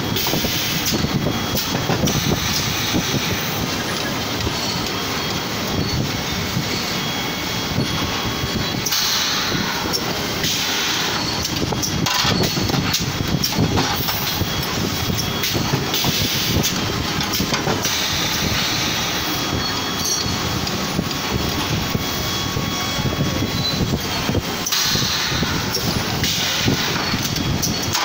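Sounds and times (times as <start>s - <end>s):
welding machine clatter: 0.0s - 7.2s, 8.0s - 22.5s, 23.6s - 28.0s.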